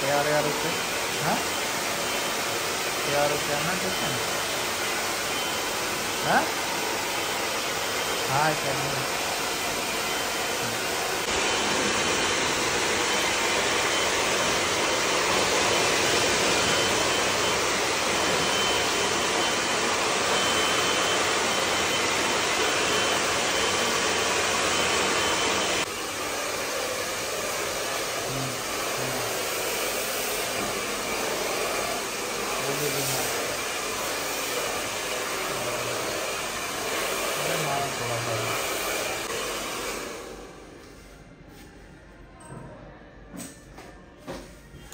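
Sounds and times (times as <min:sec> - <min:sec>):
hair dryers blowing: 0:00.0 - 0:41.2.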